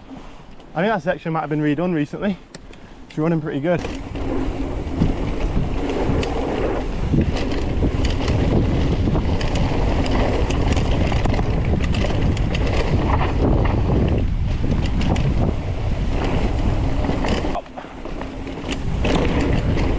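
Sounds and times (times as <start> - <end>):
bike clicks and rattles: 2.5 - 19.9
tyres rumbling over dirt: 3.4 - 19.9
wind buffeting microphone: 3.4 - 19.9.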